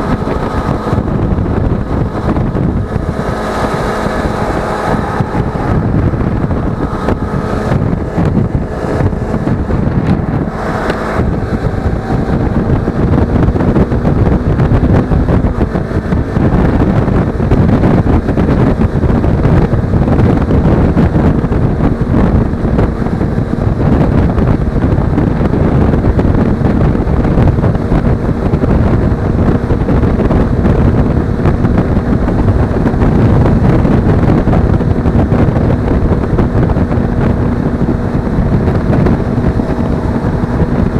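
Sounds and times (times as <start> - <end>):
motorcycle engine humming: 0.0 - 40.9
wind rushing over microphone: 0.0 - 40.9.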